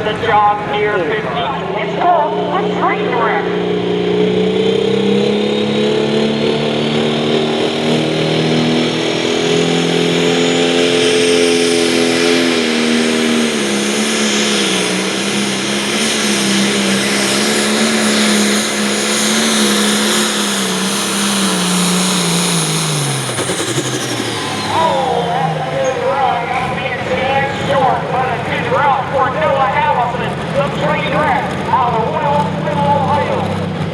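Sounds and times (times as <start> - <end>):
diesel engine fast idle: 0.0 - 33.9
turbo whine: 0.0 - 33.9.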